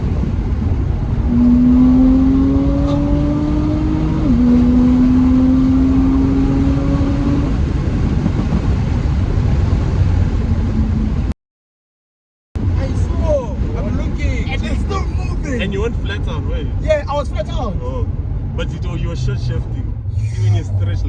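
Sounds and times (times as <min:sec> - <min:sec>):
car engine accelerating: 0:00.0 - 0:11.3, 0:14.1 - 0:21.0.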